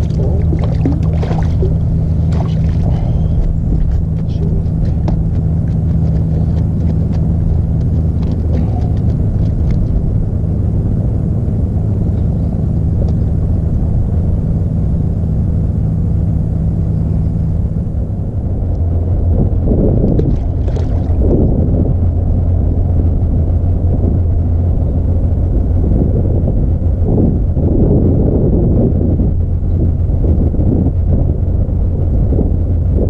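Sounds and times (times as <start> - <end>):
low motor hum: 0.0 - 33.0.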